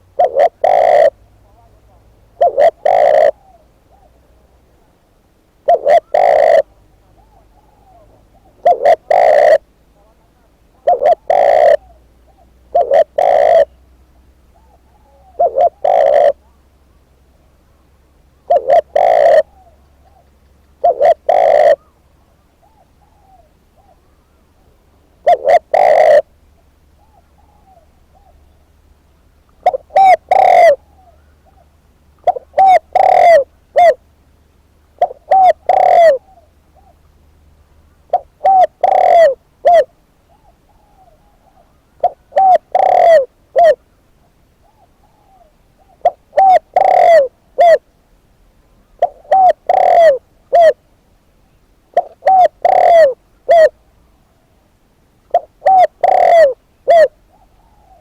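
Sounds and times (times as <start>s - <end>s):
dove cooing: 0.0s - 5.0s, 5.6s - 34.1s, 35.0s - 37.2s, 38.1s - 43.9s, 44.6s - 47.9s, 48.8s - 50.8s, 51.4s - 53.9s, 55.3s - 58.0s.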